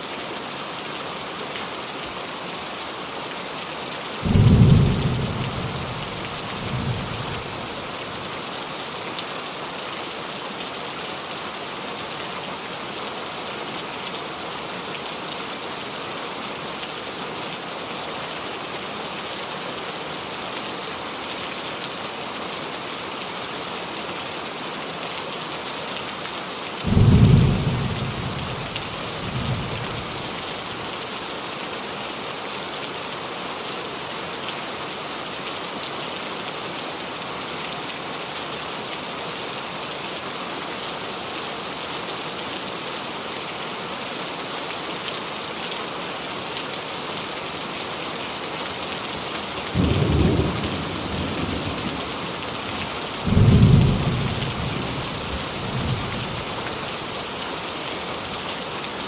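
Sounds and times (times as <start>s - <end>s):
rain falling on a roof: 0.0s - 59.0s.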